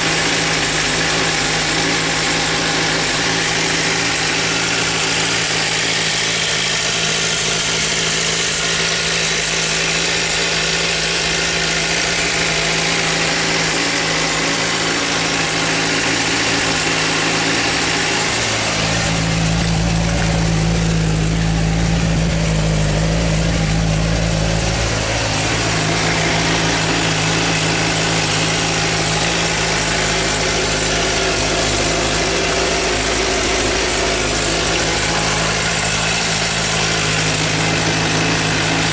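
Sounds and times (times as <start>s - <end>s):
motorcycle engine idling with ticking: 0.0s - 38.9s.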